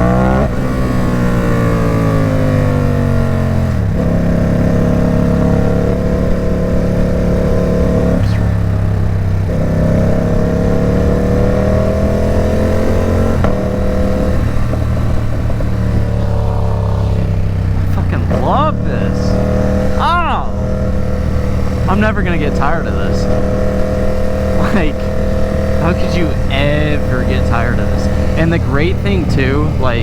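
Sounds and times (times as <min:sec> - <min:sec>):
gear change: 0:00.0 - 0:30.0
motorcycle engine through loud exhaust: 0:00.0 - 0:30.0.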